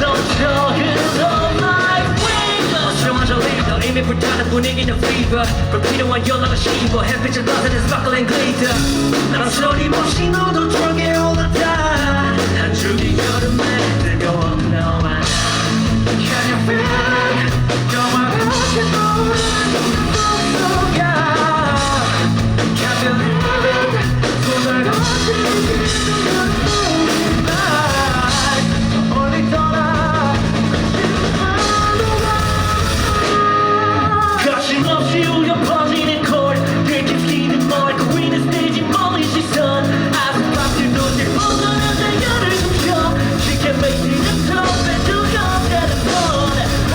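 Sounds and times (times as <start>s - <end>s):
live rock band: 0.0s - 46.9s
person singing: 0.0s - 46.9s.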